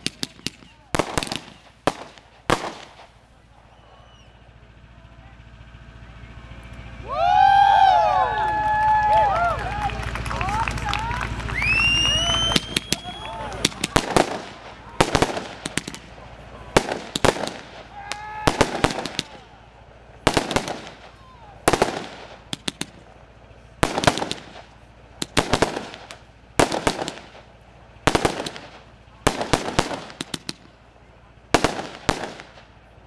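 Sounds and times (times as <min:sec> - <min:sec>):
fireworks bangs: 0:00.0 - 0:07.0, 0:08.8 - 0:33.0
fireworks crackle: 0:00.0 - 0:07.0, 0:08.8 - 0:33.0.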